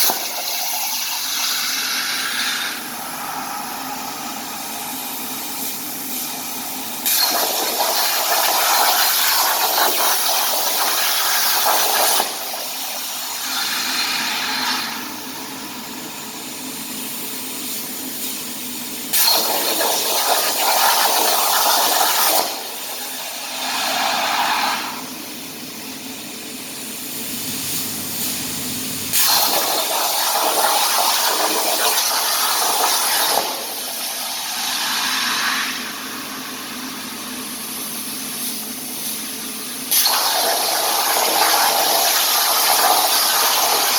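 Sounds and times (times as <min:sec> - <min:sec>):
burst of air: 0:00.0 - 0:15.9, 0:19.1 - 0:25.4, 0:29.1 - 0:39.2, 0:39.9 - 0:43.9
plasma cutter torch hissing: 0:00.0 - 0:26.0, 0:26.8 - 0:43.9.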